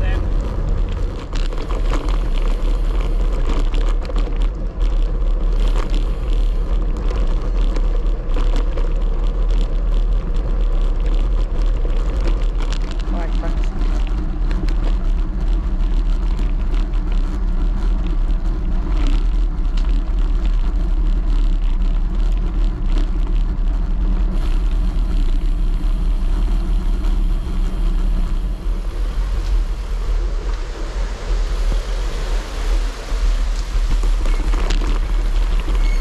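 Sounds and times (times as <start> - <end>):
bicycle tyres on gravel: 0.0 - 36.0
bike rattling: 0.0 - 36.0
wind buffeting microphone: 0.0 - 36.0.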